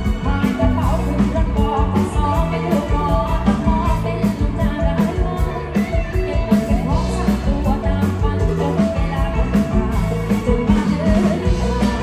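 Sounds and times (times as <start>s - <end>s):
heavy bass: 0.0s - 12.0s
live band music: 0.0s - 12.0s
woman singing: 0.0s - 12.0s.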